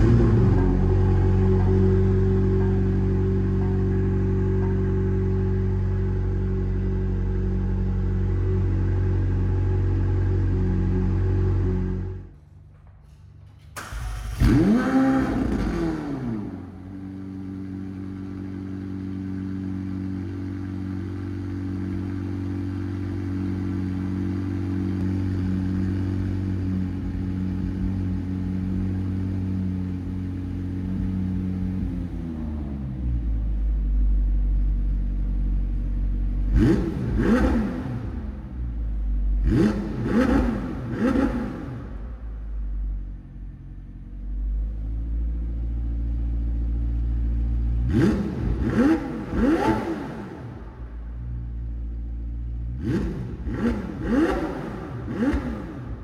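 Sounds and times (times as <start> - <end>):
car engine starting and idling: 0.0 - 56.0
engine throttle blips: 0.0 - 56.0.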